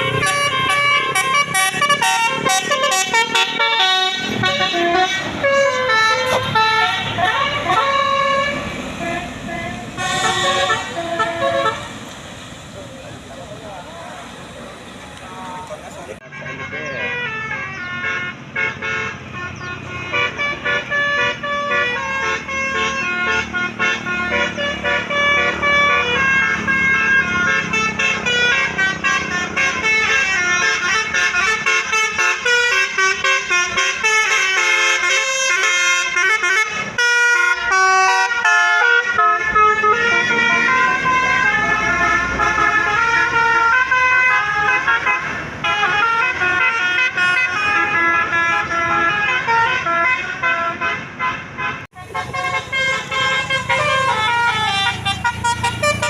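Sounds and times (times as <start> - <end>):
bus horn playing tunes: 0.0 - 12.0, 16.2 - 56.0
motor vehicle rumble: 0.0 - 56.0.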